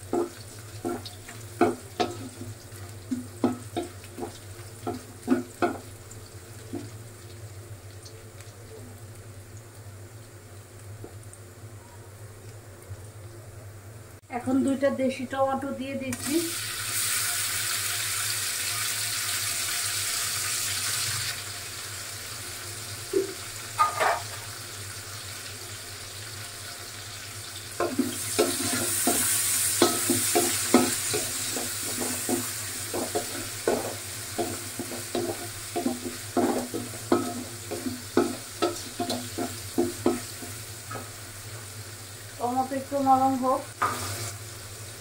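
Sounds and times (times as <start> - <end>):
tomatoes sizzling in oil: 0.0 - 45.0.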